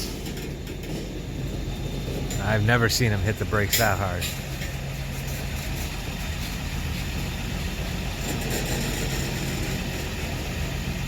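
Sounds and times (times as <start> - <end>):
diesel locomotive engine hum: 0.0 - 11.0.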